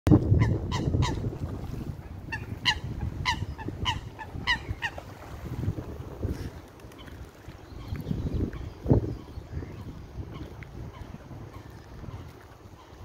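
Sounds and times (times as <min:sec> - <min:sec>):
wind rumbling on microphone: 0:00.1 - 0:13.0.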